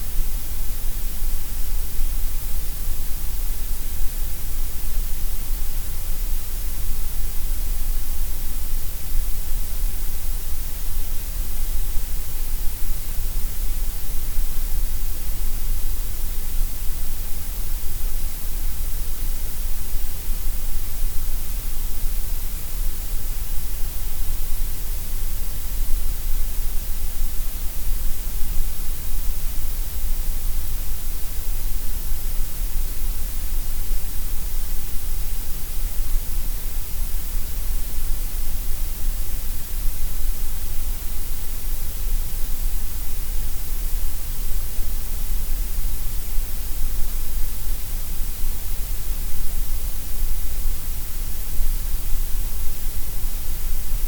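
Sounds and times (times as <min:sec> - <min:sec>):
gray noise hiss: 0:00.0 - 0:54.0.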